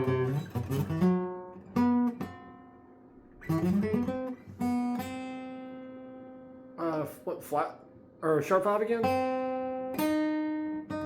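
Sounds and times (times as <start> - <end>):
guitar playing single notes: 0.0 - 11.0.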